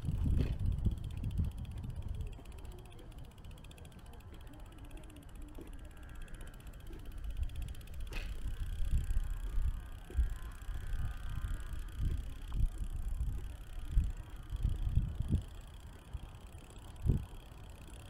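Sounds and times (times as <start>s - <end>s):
wind buffeting microphone: 0.0s - 3.4s, 6.4s - 17.5s
faint fast ticking: 0.0s - 18.0s.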